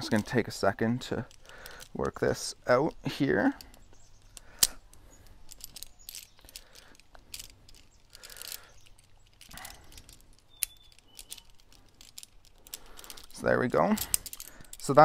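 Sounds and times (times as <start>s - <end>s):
carabiners clicking and clinking: 0.0s - 15.0s
soft rustles: 0.0s - 15.0s.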